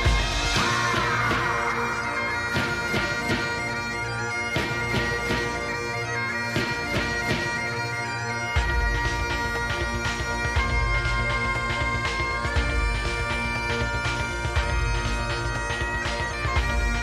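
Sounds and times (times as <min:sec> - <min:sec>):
steady drum beat: 0:00.0 - 0:07.7, 0:08.5 - 0:17.0
droning held notes: 0:00.0 - 0:17.0.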